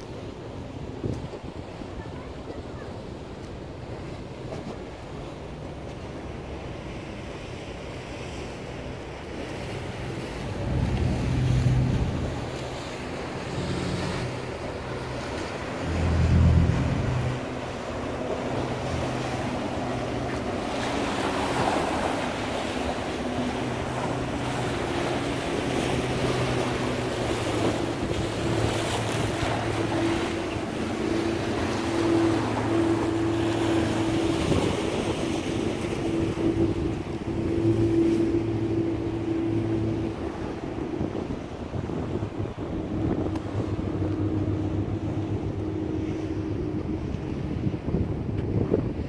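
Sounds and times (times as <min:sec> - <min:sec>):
boat engine humming: 0:00.0 - 0:49.0
sea surf washing: 0:00.0 - 0:49.0
wind on microphone: 0:08.0 - 0:49.0.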